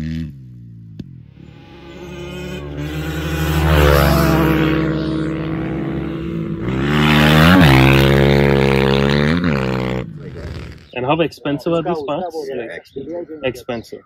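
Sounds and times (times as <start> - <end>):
motorcycle engine revving: 0.0 - 11.3.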